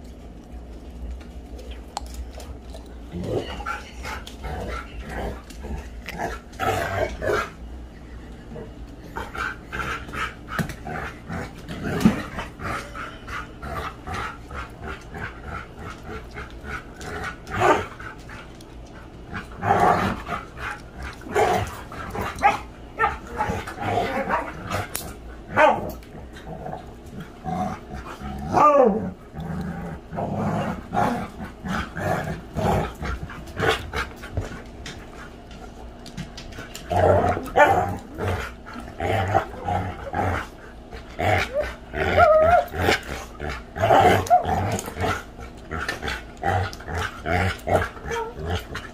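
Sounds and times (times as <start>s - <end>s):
dogs growling and barking: 1.9s - 48.9s.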